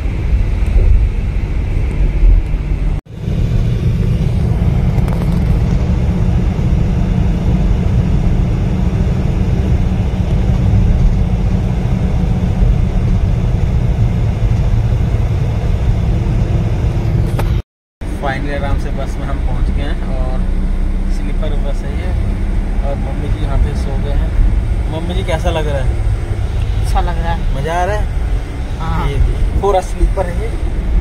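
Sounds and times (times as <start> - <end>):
coach engine and road rumble: 0.0 - 31.0.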